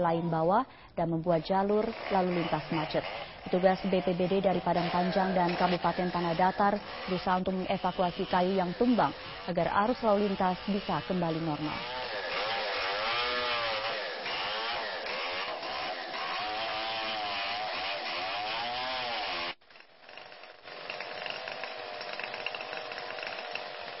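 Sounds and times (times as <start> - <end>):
chainsaw cutting wood: 1.3 - 24.0.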